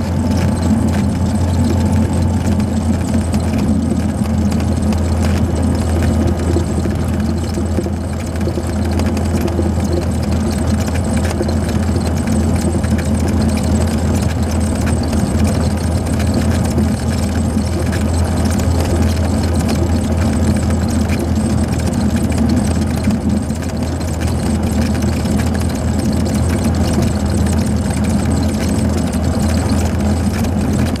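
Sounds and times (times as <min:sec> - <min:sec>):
aircraft engine running: 0:00.0 - 0:31.0.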